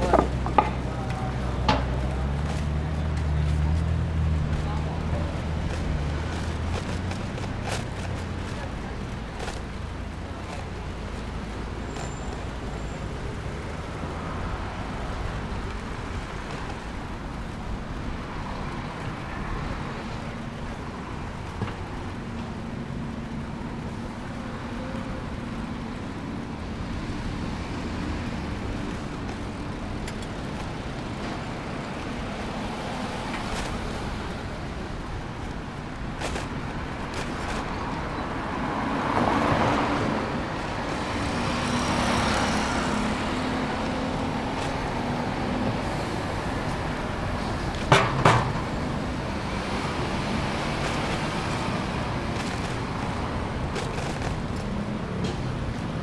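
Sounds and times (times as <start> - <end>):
urban traffic noise: 0.0 - 56.0.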